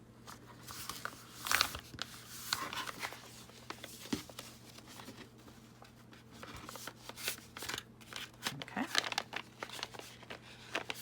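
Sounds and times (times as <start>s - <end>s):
paper bag rustling: 0.3s - 11.0s.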